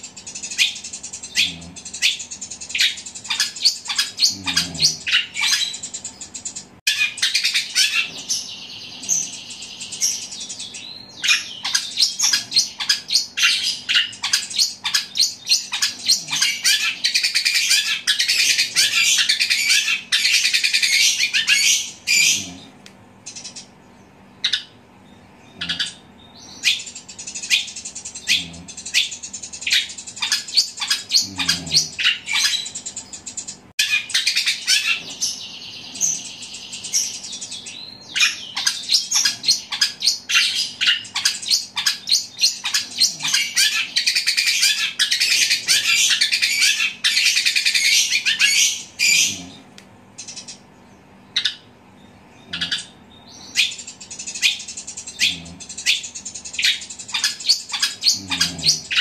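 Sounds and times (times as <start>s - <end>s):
shrike chattering song: 0.0s - 23.8s, 25.5s - 50.7s, 52.4s - 59.0s.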